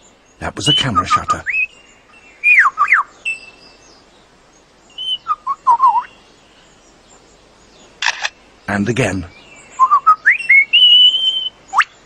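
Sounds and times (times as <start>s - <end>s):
bird singing whistled notes: 0.0s - 7.9s, 9.2s - 12.0s.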